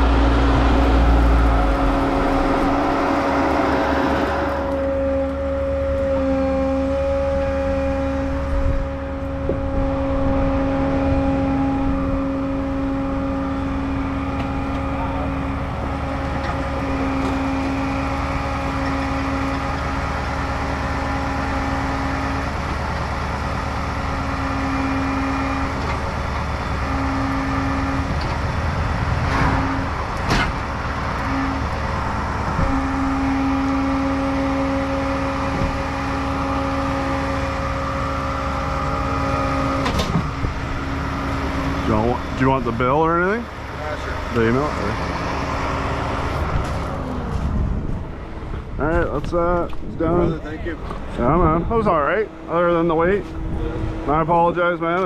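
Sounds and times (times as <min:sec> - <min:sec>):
truck engine humming: 0:00.0 - 0:55.0.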